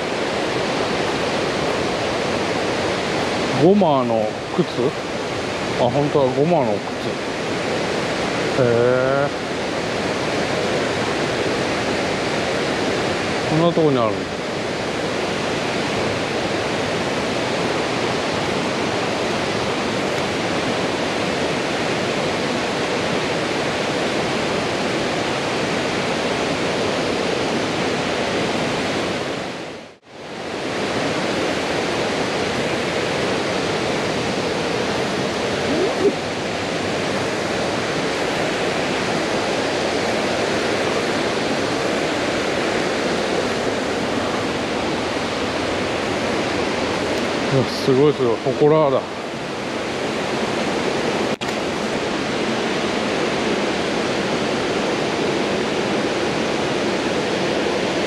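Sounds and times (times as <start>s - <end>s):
river and waterfalls rushing: 0.0s - 58.0s.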